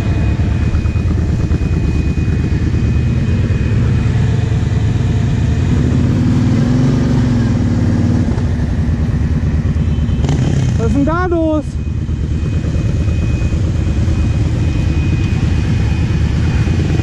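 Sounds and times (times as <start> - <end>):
quad bike engines running: 0.0 - 17.0.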